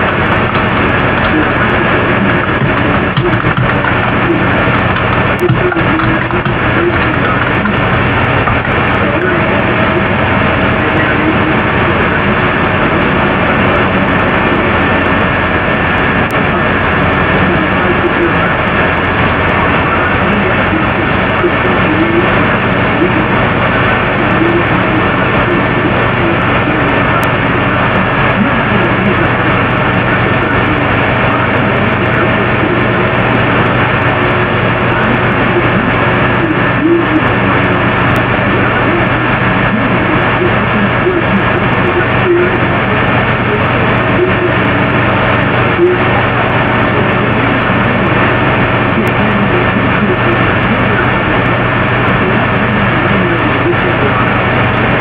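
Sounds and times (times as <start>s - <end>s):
low hum: 0.0s - 55.0s
steady microphone hiss: 0.0s - 55.0s.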